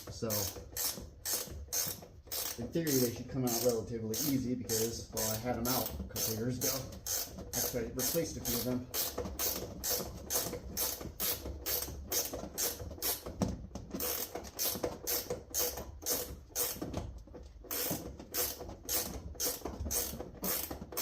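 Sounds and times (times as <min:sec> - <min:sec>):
ratchet wrench clicking: 0:00.0 - 0:13.3, 0:14.0 - 0:16.8, 0:17.7 - 0:21.0.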